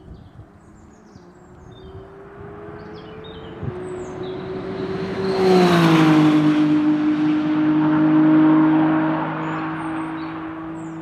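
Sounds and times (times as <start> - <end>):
distant car engine revving: 0.6 - 11.0.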